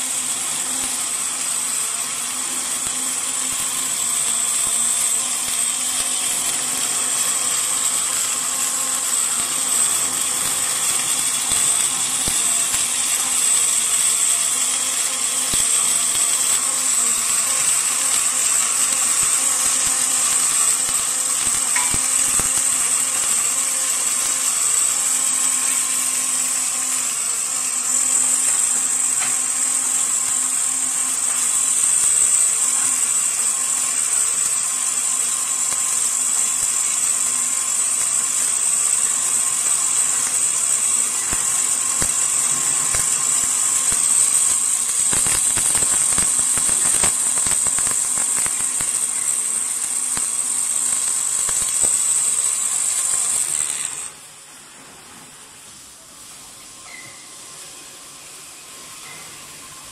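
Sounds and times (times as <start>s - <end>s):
welding arcs hissing and whining: 0.0s - 59.9s.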